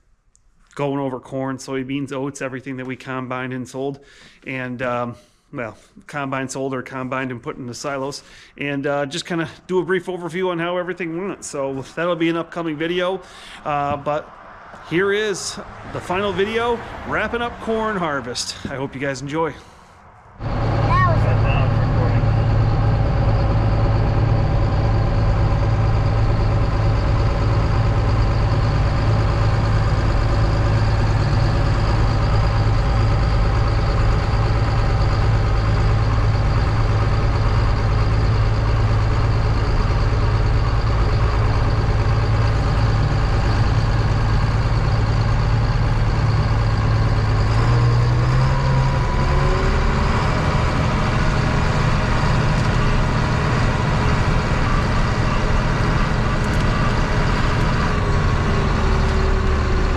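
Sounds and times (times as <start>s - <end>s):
heavy diesel engine running: 9.1s - 59.9s.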